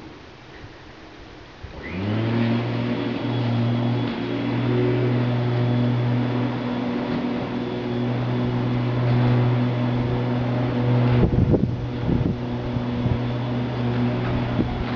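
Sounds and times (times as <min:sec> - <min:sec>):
low mechanical hum: 0:00.0 - 0:14.9.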